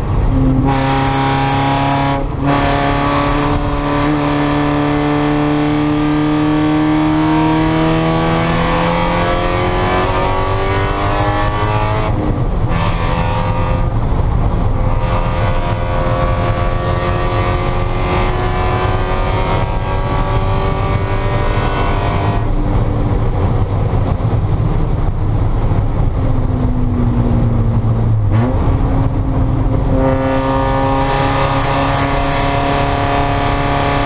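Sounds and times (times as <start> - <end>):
car engine under throttle: 0.0 - 34.0.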